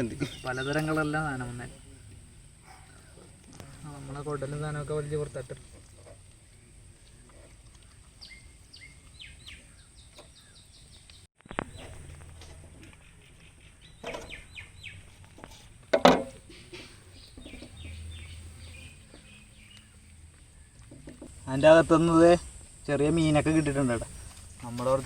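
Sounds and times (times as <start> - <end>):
small birds chirping: 0.0 - 15.6, 16.4 - 25.0.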